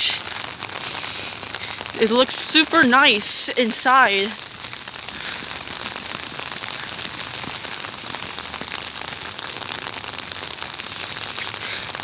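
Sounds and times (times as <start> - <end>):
steady pouring rain: 0.0 - 12.0.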